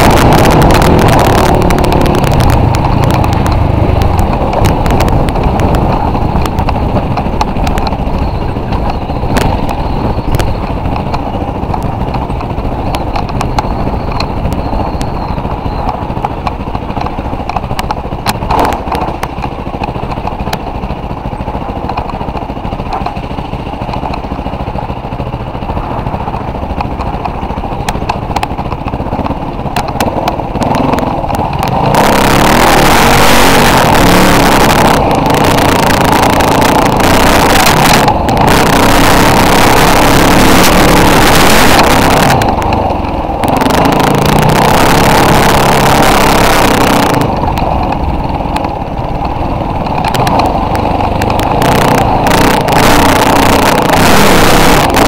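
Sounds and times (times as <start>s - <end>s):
off-road vehicle engine: 0.0s - 55.0s.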